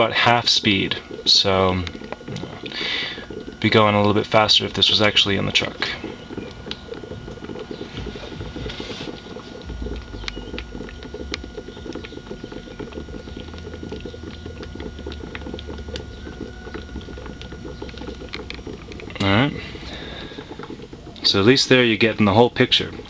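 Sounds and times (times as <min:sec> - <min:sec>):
gas bubbling through water: 0:00.0 - 0:23.0
low hum: 0:00.0 - 0:23.0
sharp bubble pops: 0:02.1 - 0:21.2.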